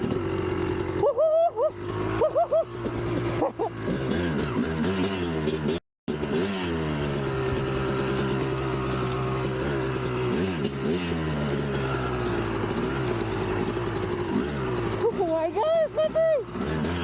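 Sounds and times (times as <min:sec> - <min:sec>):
two-stroke dirt bike engine: 0:00.0 - 0:17.0.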